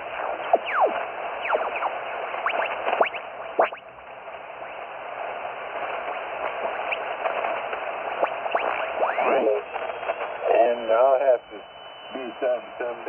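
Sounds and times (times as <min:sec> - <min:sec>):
radio static: 0:00.0 - 0:03.8, 0:04.6 - 0:13.0.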